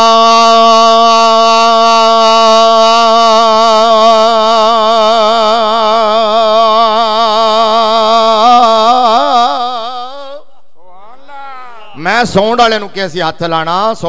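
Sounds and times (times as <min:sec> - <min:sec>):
man singing long note: 0:00.0 - 0:12.1.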